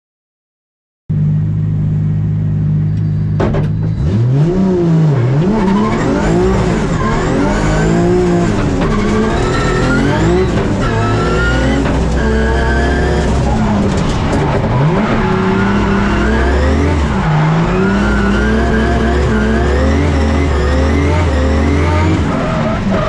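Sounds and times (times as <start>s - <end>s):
car engine revving: 1.1s - 23.0s.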